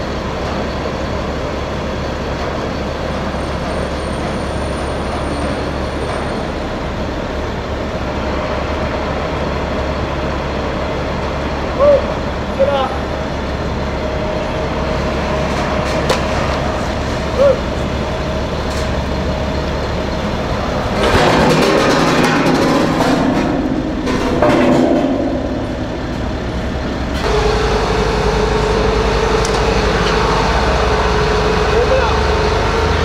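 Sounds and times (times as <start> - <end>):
clanking and rumbling: 0.0 - 33.0
crane engine running with whine: 0.0 - 33.0.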